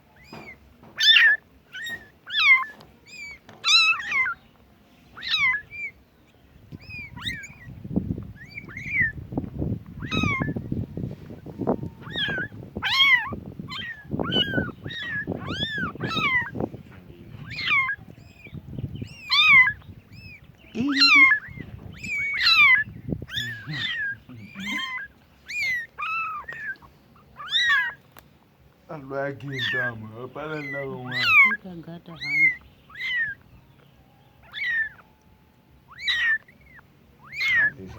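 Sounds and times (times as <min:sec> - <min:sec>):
kittens meowing: 0:00.0 - 0:04.5, 0:05.2 - 0:06.0, 0:06.7 - 0:28.2, 0:29.1 - 0:33.6, 0:34.3 - 0:37.9
low uneven noise: 0:00.0 - 0:37.9.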